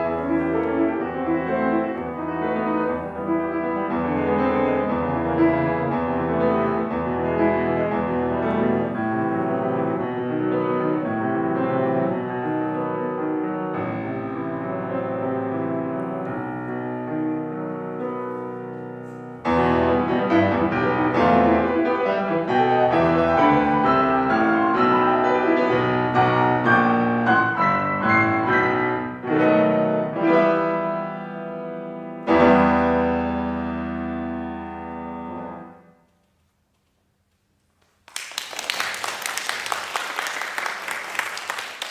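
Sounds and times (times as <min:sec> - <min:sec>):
piano playing: 0:00.0 - 0:36.1.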